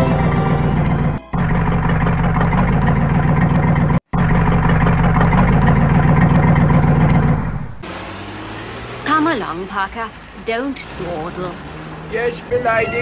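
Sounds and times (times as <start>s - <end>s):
vehicle engine humming and clattering: 0.0s - 13.0s.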